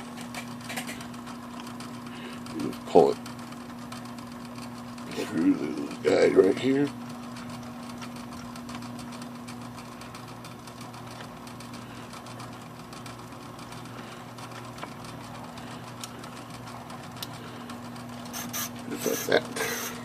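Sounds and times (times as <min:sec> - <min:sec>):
typewriter motor humming: 0:00.0 - 0:20.0.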